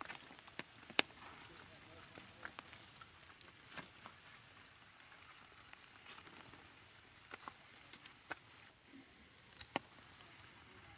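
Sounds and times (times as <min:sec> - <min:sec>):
faint outdoor hiss: 0:00.0 - 0:10.9.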